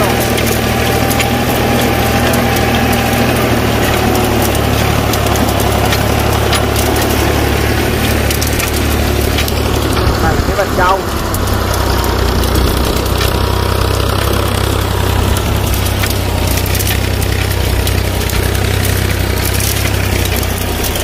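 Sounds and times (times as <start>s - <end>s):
sharp clicks and rattles: 0.0s - 21.0s
tractor engine running: 0.0s - 21.0s.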